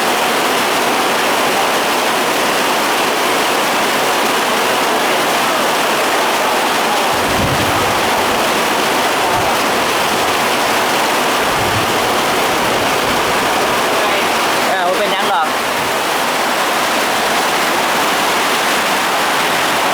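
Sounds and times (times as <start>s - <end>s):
heavy rain downpour: 0.0s - 19.9s.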